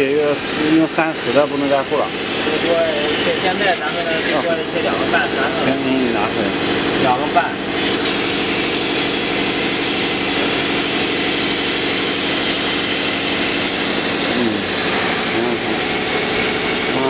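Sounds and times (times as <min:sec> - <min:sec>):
laser cutting machine whirring: 0:00.0 - 0:17.0.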